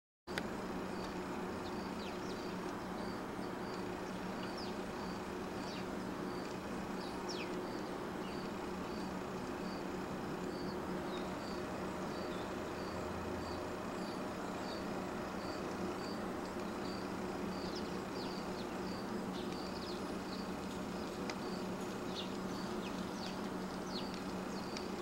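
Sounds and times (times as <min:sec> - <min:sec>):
low steady hum: 0:00.3 - 0:25.0.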